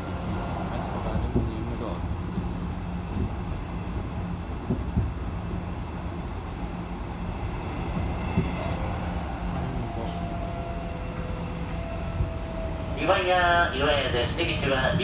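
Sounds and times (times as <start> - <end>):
rumble of train wheels on rail: 0.0 - 15.0.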